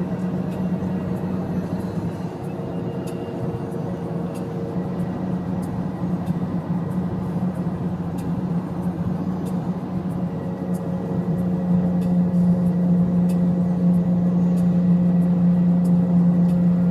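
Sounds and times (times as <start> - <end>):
road noise: 0.0 - 16.9.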